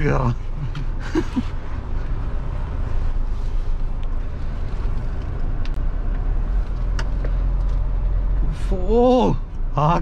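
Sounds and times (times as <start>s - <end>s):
diesel engine rumbling inside cabin: 0.0s - 10.0s.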